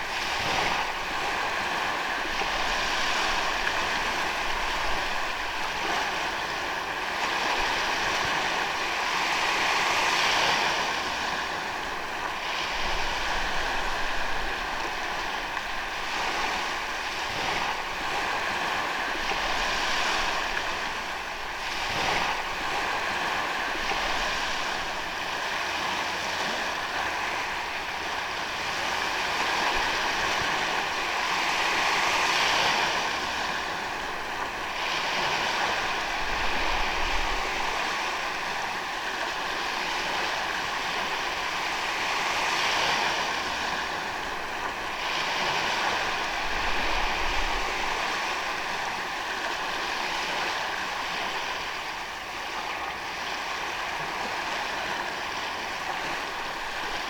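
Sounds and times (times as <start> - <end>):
ocean waves on sandy beach: 0.0 - 57.0.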